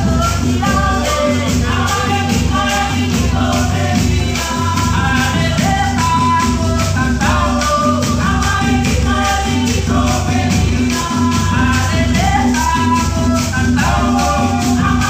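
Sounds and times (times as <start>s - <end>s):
bass drums: 0.0s - 15.0s
hand drums: 0.0s - 15.0s
marimba: 0.0s - 15.0s
women singing: 0.0s - 15.0s.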